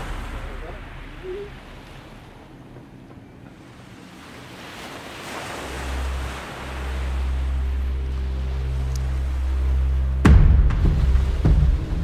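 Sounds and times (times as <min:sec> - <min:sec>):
low hum: 0:00.0 - 0:04.6, 0:05.6 - 0:12.0
river water washing: 0:00.0 - 0:12.0
wind buffeting microphone: 0:00.0 - 0:12.0.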